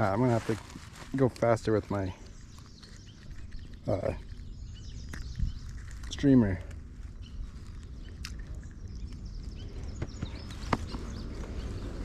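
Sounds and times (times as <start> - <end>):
faint bird chirps: 1.7 - 12.0.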